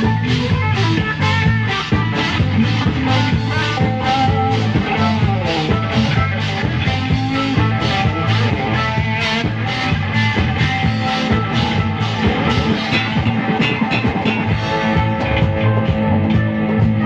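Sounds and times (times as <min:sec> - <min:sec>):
electric guitar: 0:00.0 - 0:17.0
rock band playing live: 0:00.0 - 0:17.0.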